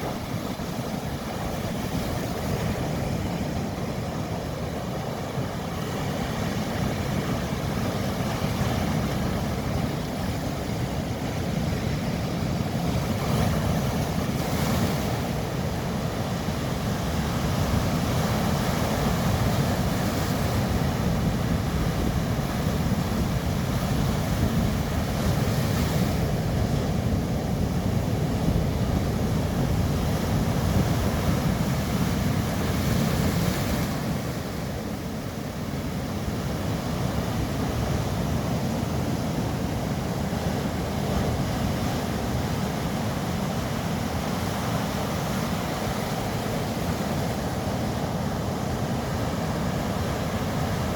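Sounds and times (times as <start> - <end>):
sea waves washing onto shore: 0.0 - 50.9
wind rumbling on microphone: 0.0 - 50.9.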